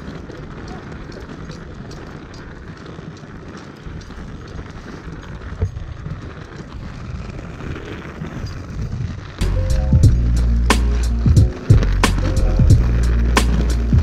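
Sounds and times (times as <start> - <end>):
skate wheels rolling over paving: 0.0 - 14.0
wind buffeting microphone: 0.0 - 14.0.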